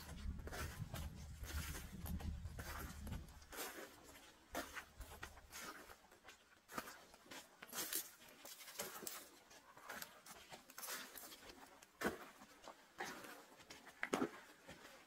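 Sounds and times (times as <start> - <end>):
footsteps on dry leaves and twigs: 0.0 - 15.0.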